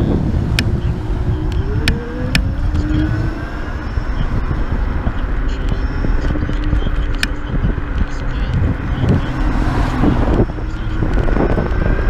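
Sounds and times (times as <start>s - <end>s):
road rumble: 0.0s - 12.0s
wind buffeting microphone: 0.0s - 12.0s.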